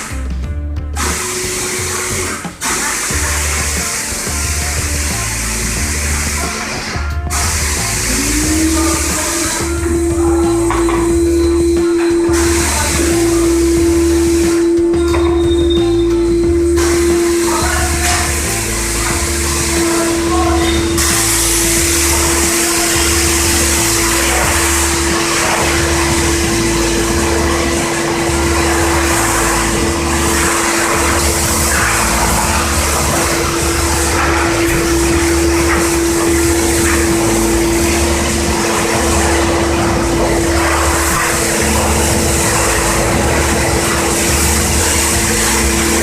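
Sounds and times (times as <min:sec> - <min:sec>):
pressure washer spraying water: 0:00.0 - 0:46.0.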